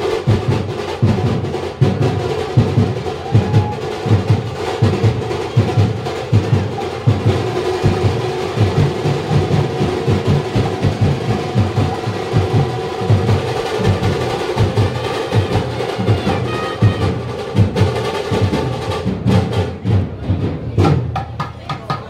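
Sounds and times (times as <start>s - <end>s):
fast drumming: 0.0s - 22.0s.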